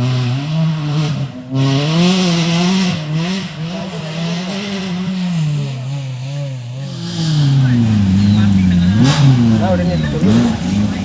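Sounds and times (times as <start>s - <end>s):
race car engine revving: 0.0s - 11.0s.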